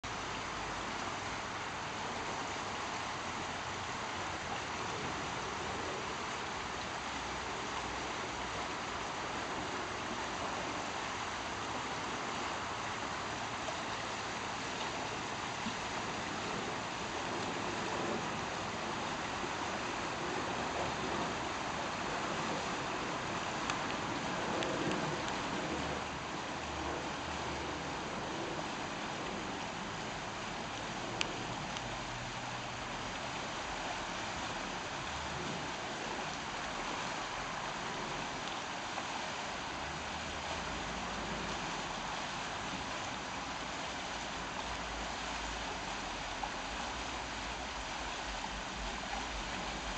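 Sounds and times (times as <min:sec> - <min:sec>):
river water rushing over rocks: 0:00.0 - 0:49.9.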